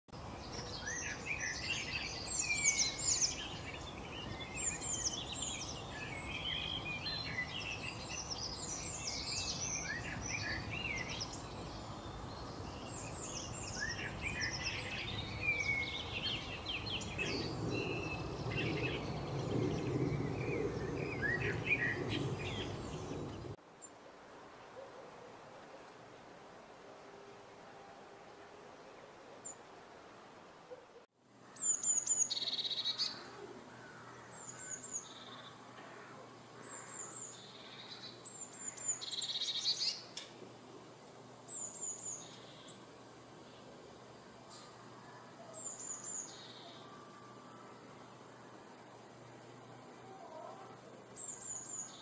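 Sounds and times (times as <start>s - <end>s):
songbirds chirping and whistling: 0.2s - 23.9s, 31.5s - 40.3s, 41.2s - 52.0s.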